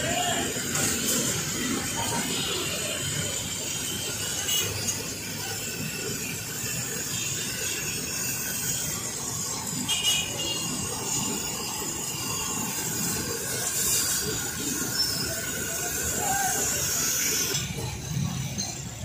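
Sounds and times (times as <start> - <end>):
oil sizzling in a wok: 0.0 - 19.0.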